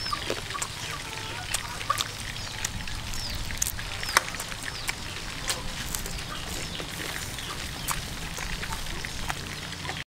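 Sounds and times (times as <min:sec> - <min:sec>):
birds chirping: 0:00.0 - 0:10.0
crunchy chewing: 0:00.0 - 0:10.0.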